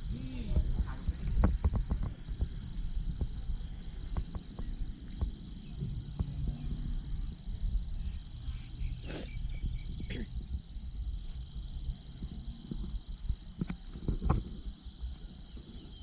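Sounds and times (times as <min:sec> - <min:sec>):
insects trilling: 0:00.0 - 0:16.0
low rumble: 0:00.0 - 0:16.0.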